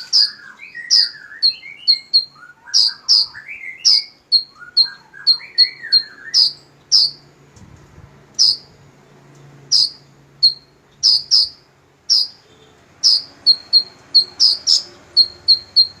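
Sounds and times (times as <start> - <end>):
songbird chirping: 0.0 - 7.5, 8.3 - 16.0.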